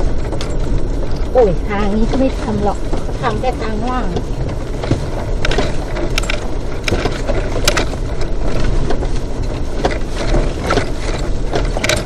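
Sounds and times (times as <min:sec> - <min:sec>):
car rattles and knocks: 0:00.0 - 0:12.0
tyres rumbling on dirt track: 0:00.0 - 0:12.0.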